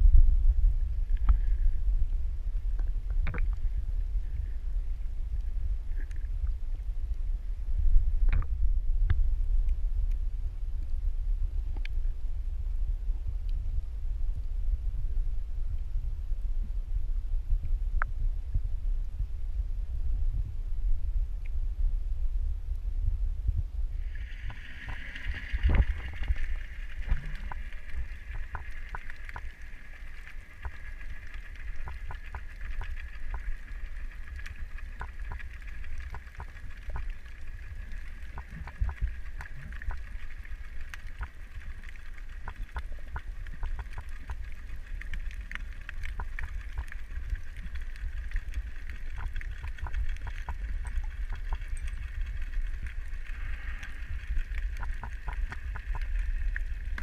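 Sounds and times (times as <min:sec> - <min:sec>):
underwater low rumble and hiss: 0:00.0 - 0:57.0.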